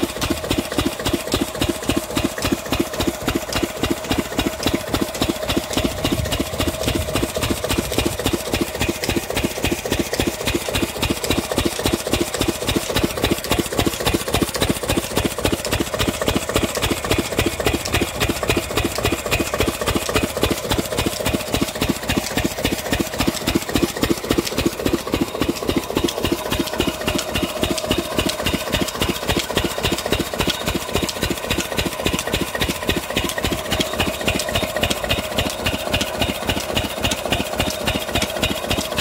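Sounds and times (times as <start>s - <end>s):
stationary engine thudding: 0.0s - 39.0s.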